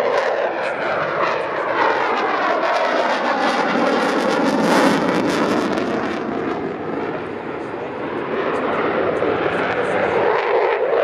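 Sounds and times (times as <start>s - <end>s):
jet engines passing: 0.0s - 11.0s.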